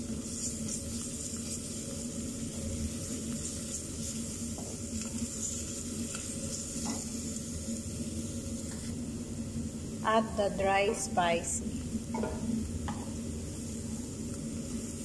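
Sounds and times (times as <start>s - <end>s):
onion and garlic sizzling: 0.0s - 15.0s.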